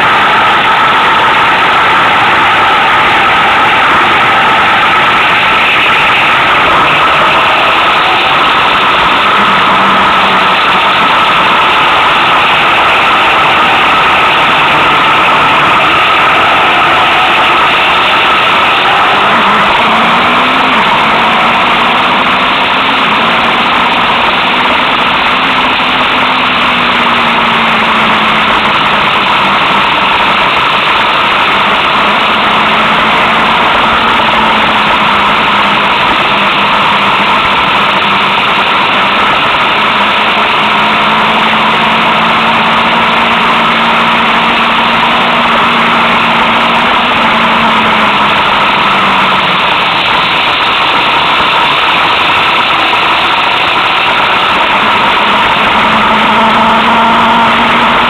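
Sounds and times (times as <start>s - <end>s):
road noise: 0.0s - 58.0s
motorcycle engine running: 1.8s - 52.0s, 54.6s - 58.0s.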